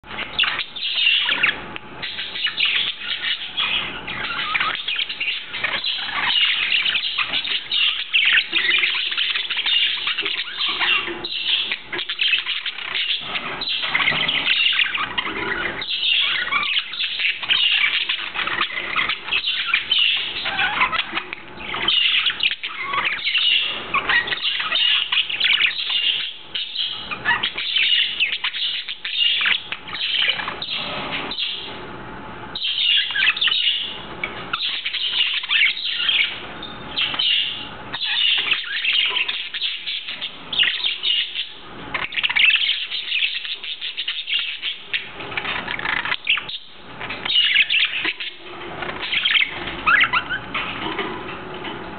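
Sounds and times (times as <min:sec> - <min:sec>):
budgerigars chirping: 0:00.0 - 0:31.8, 0:32.5 - 0:51.6.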